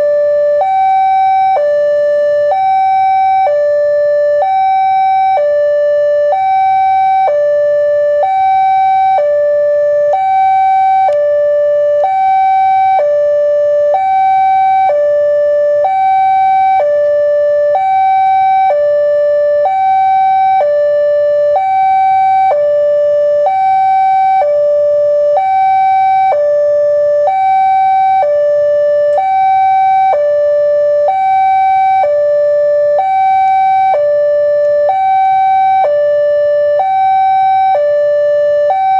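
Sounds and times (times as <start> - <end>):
level crossing alarm two-tone warning: 0.0 - 38.9.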